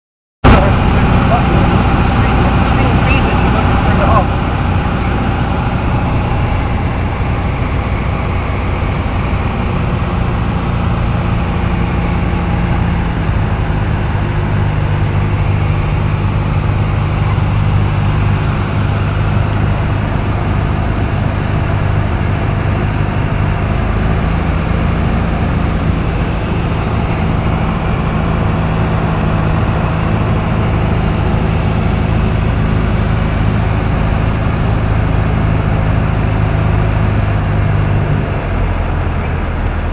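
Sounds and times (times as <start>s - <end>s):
light aircraft engine and propeller: 0.5s - 39.9s.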